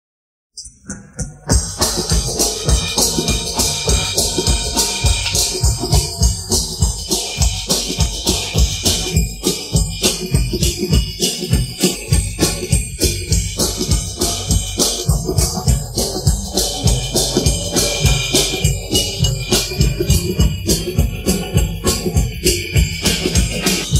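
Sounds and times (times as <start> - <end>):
rock drum beat: 1.5 - 23.9
cymbal wash: 1.7 - 23.9.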